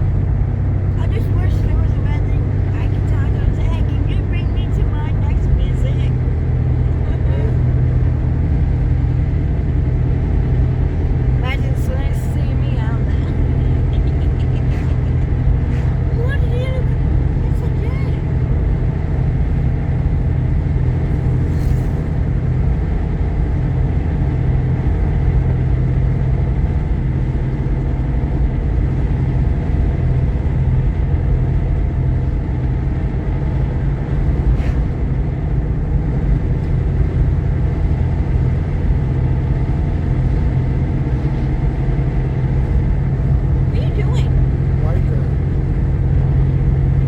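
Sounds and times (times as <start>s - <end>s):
car cabin road and engine drone: 0.0s - 47.0s.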